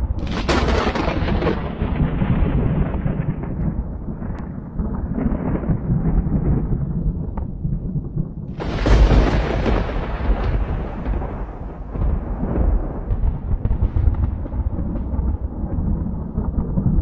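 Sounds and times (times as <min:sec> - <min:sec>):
thunder crack and rumble: 0:00.0 - 0:17.0.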